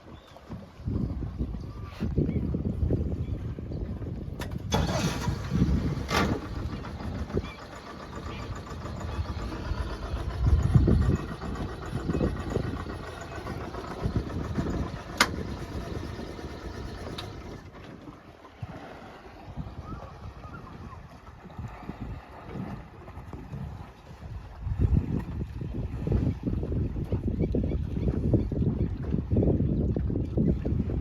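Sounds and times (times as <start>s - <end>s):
wind buffeting microphone: 0.0s - 31.0s
boat engine running: 0.1s - 31.0s.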